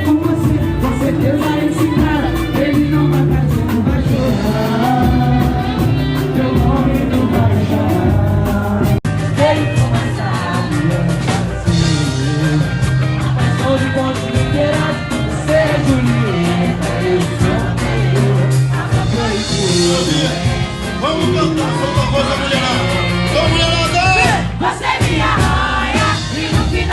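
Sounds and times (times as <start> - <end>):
samba percussion: 0.0 - 26.9
voices singing: 0.0 - 26.9.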